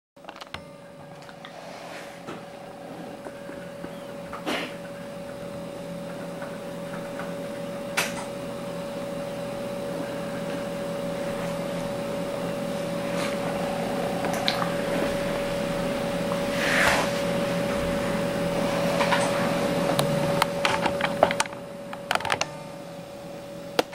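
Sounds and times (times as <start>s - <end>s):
steady mechanical hum: 0.2s - 23.9s.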